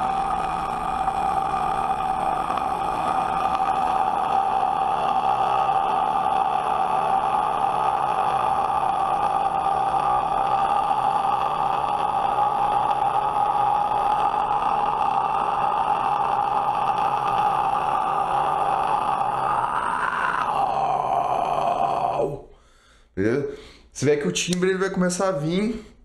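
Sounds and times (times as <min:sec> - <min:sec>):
man fry screaming: 0:00.0 - 0:22.5.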